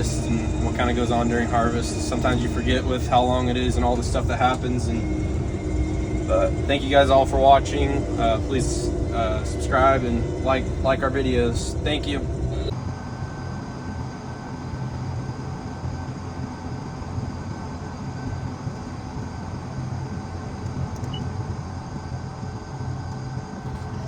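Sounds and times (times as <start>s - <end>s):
faint steady whine: 0.0s - 24.0s
vehicle engine droning: 0.0s - 24.0s.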